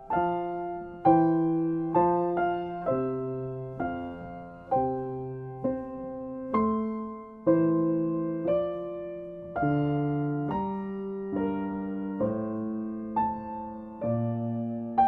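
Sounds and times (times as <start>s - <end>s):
grand piano chords ringing: 0.0s - 15.0s.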